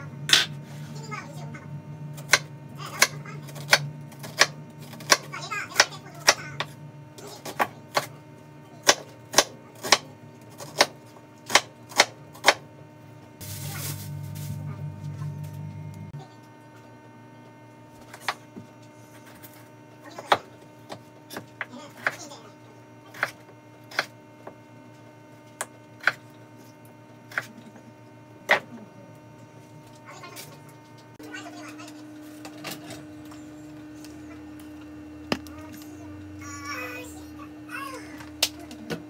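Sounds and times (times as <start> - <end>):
faint hum: 0.0 - 39.0.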